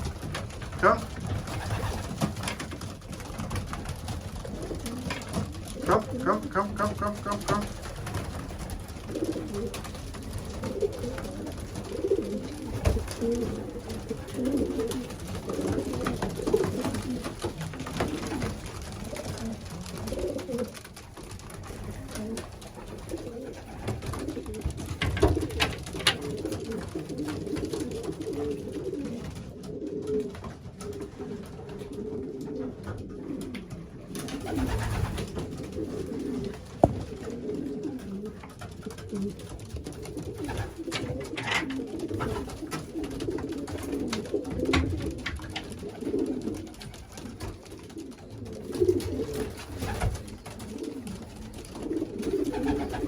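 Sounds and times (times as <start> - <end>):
birds moving clicks and knocks: 0.0 - 29.4, 38.0 - 53.0
pigeons cooing: 0.0 - 53.0.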